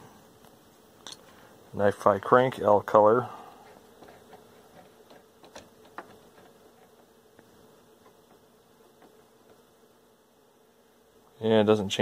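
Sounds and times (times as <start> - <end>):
faint electrical buzz: 0.0 - 12.0
low hiss: 0.0 - 12.0.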